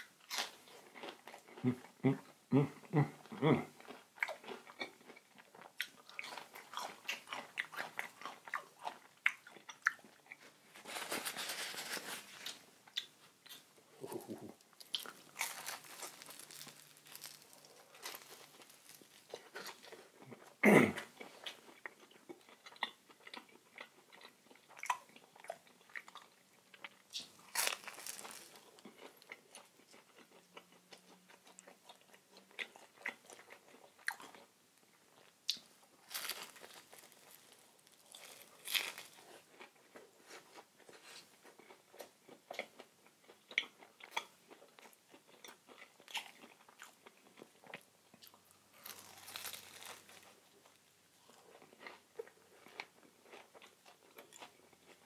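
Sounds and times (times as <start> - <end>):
crisp crunching from chewing: 3.8 - 34.5, 35.1 - 55.0.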